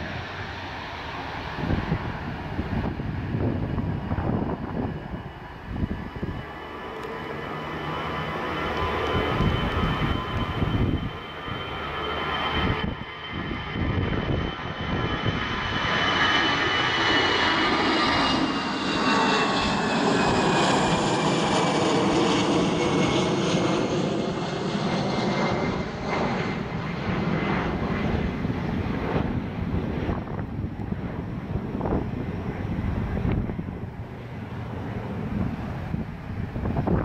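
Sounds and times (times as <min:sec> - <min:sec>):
high engine whine: 0:00.0 - 0:37.0
jet engines passing: 0:00.0 - 0:37.0.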